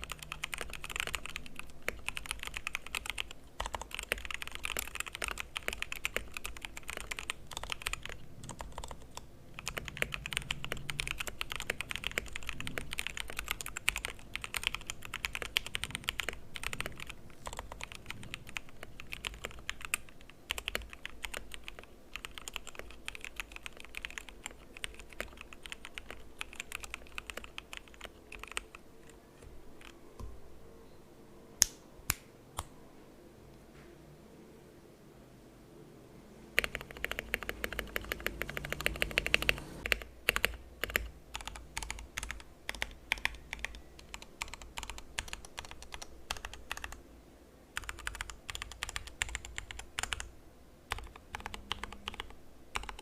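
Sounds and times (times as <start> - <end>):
mechanical keyboard typing: 0.0 - 29.2, 36.6 - 47.0, 47.8 - 50.3, 50.9 - 53.0.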